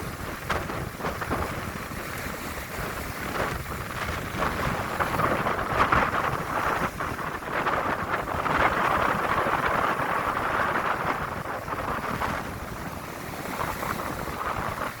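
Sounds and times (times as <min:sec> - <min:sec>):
sea surf washing on shore: 0:00.0 - 0:15.0
wind rumbling on microphone: 0:00.0 - 0:15.0.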